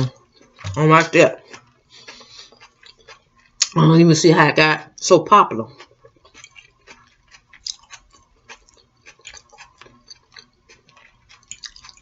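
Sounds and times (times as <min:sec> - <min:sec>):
chewing and mouth clicks: 0:00.0 - 0:03.8, 0:05.7 - 0:12.0.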